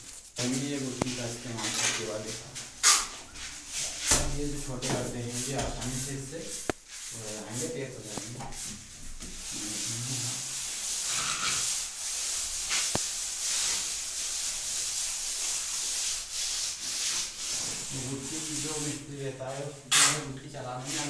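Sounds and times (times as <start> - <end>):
hand float scraping plaster: 0.2 - 21.0.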